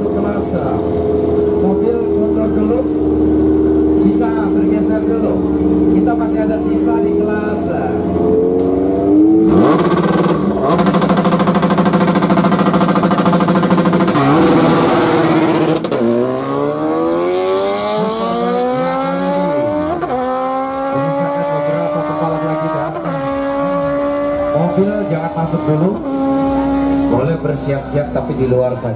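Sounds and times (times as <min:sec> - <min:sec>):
motorcycle accelerating away: 0:00.0 - 0:27.7
motorcycle engine revving: 0:00.0 - 0:28.2.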